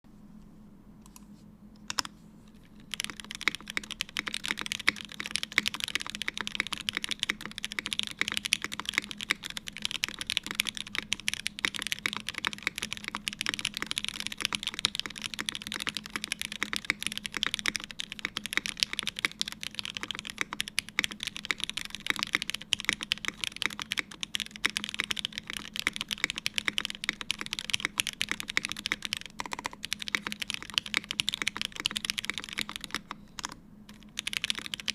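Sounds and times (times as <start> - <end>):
typing on mechanical keyboard: 2.7 - 34.9.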